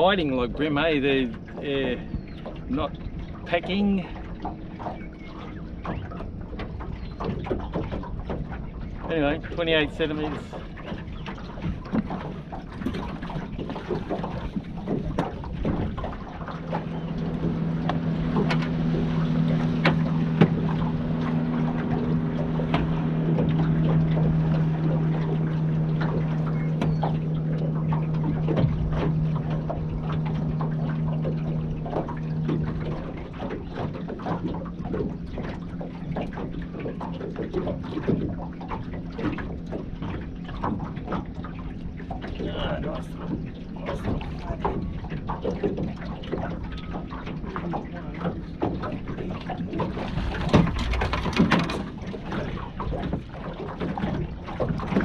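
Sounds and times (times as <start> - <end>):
motorboat engine drone: 0.0 - 55.0.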